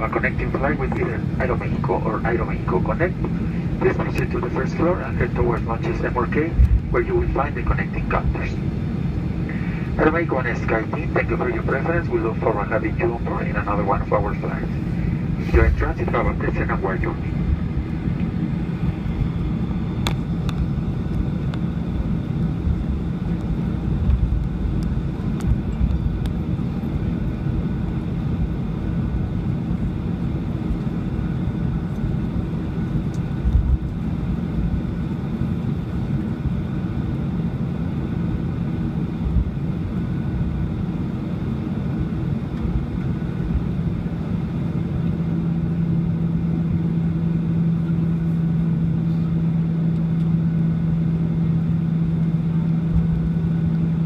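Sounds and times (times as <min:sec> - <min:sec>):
jet engines idling: 0:00.0 - 0:54.0
steady hum: 0:00.0 - 0:54.0.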